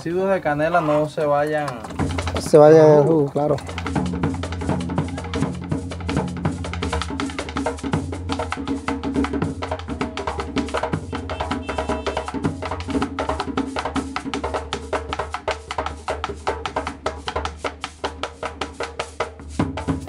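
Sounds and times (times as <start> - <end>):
music with fast percussion beat: 0.0 - 20.0.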